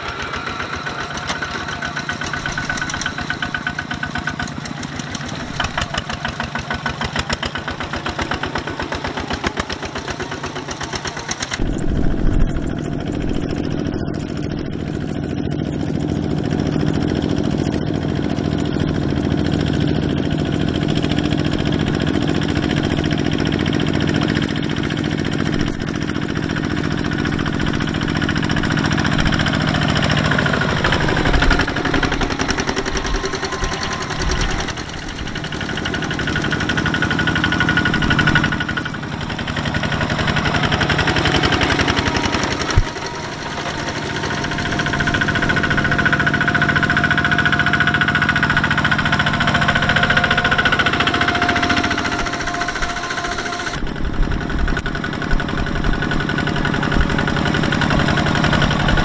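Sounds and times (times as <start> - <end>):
diesel tractor engines chugging: 0.0 - 59.0.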